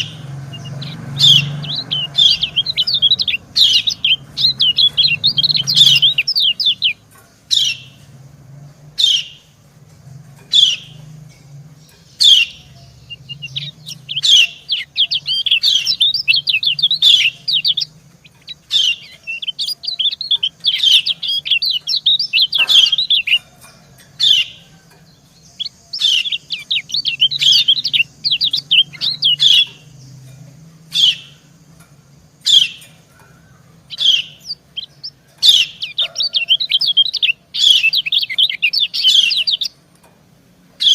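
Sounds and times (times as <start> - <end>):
bird fast twittering song: 0.0 - 39.9.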